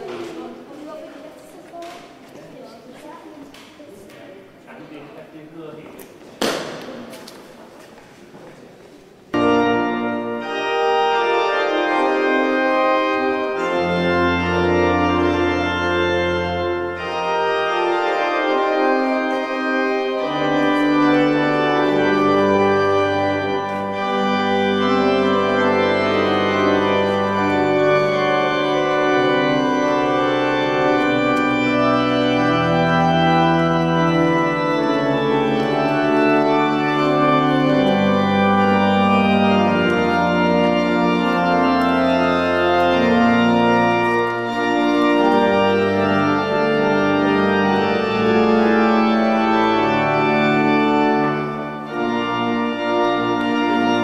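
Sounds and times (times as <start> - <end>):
church organ chords: 9.3 - 54.0
deep organ pedal notes: 9.3 - 54.0.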